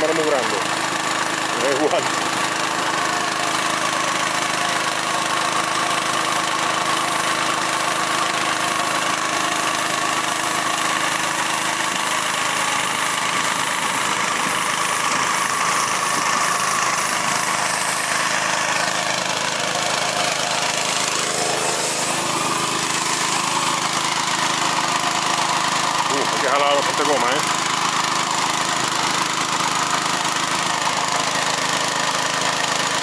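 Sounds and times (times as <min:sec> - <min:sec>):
small engine running steadily: 0:00.0 - 0:33.0.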